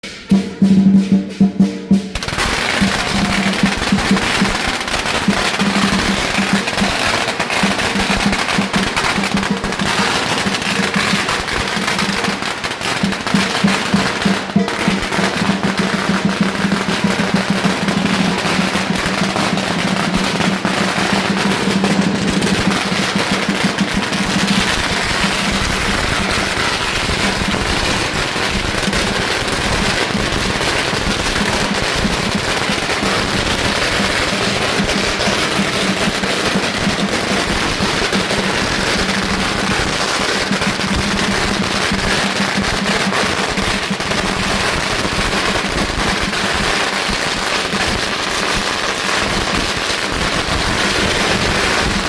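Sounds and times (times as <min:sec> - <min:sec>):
drum beating: 0:00.0 - 0:48.6
firecrackers crackling: 0:00.0 - 0:52.0.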